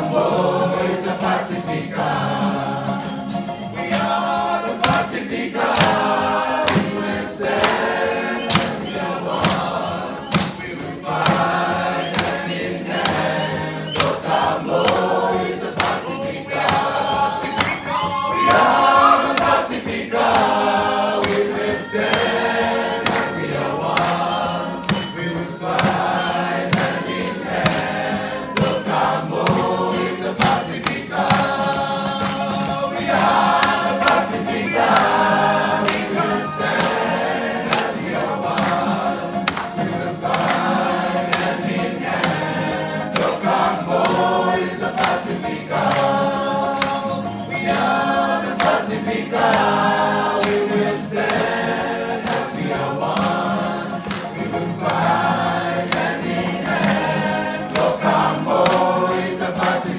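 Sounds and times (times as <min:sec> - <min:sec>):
group singing in chorus: 0:00.0 - 0:59.9
strummed guitars: 0:00.0 - 0:59.9.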